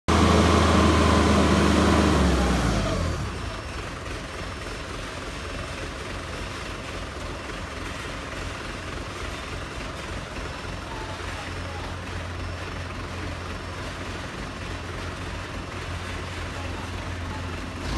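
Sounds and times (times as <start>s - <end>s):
diesel forklift engine revving: 0.1s - 17.9s.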